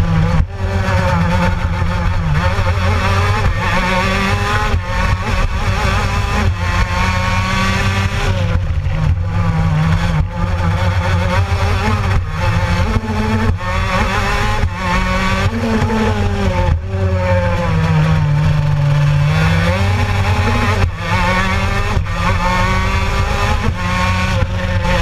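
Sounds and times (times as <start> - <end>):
kart engine revving: 0.0 - 25.0.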